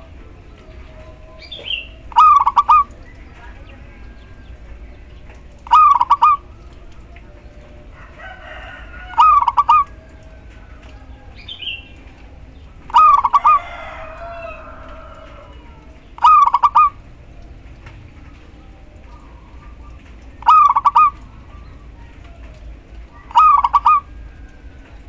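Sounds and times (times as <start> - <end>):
dove cooing: 0.0 - 25.0.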